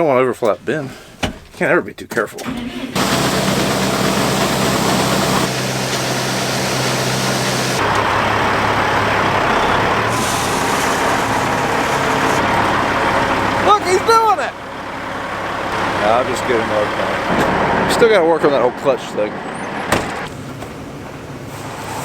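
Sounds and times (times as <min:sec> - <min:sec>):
heavy truck engine running: 0:02.5 - 0:22.0.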